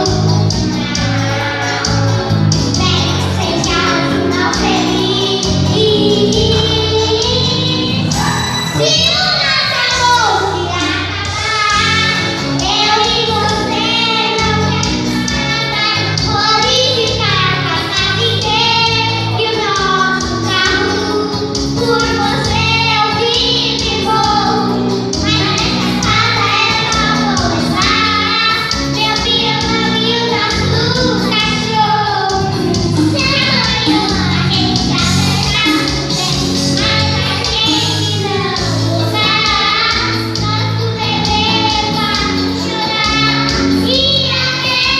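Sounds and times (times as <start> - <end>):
instrumental backing music: 0.0 - 44.9.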